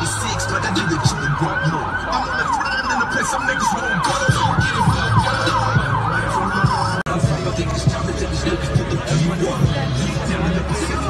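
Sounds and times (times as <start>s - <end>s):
siren yelping: 0.0s - 9.6s.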